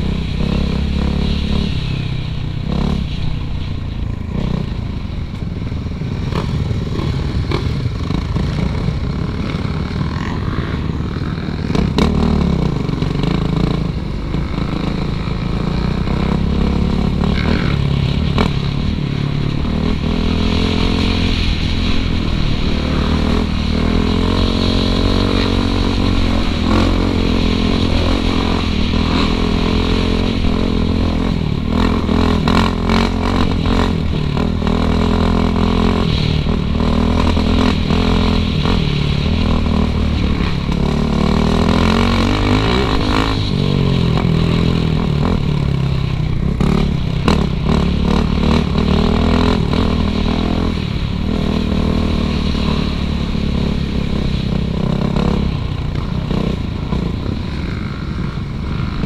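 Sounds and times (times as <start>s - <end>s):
dirt bike engine revving: 6.2s - 59.0s.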